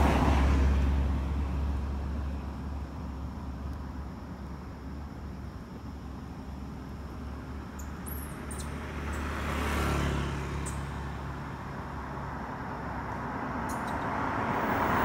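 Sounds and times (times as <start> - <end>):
vehicle passing rumble: 0.0 - 15.0.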